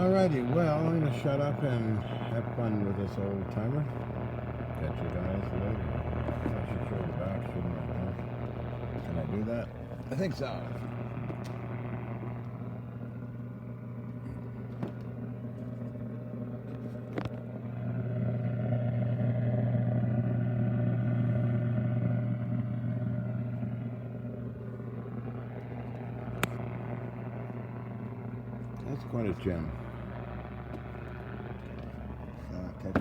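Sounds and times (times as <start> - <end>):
radio mains hum: 0.0 - 33.0.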